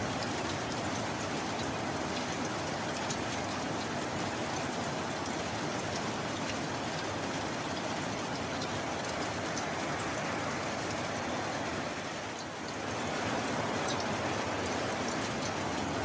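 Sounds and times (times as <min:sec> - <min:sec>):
steady rain: 0:00.0 - 0:16.0
sharp rain drop ticks: 0:00.1 - 0:11.6, 0:12.2 - 0:16.0.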